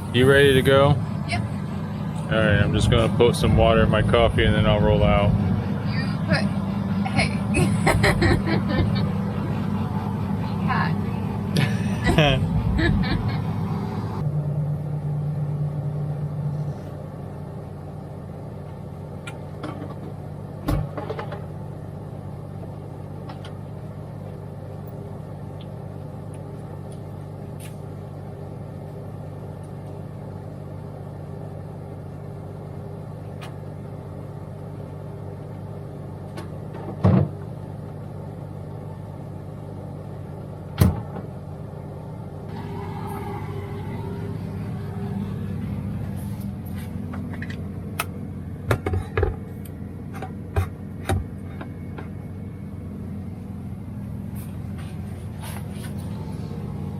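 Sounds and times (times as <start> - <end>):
diesel engine idling: 0.0 - 36.8, 37.4 - 56.9.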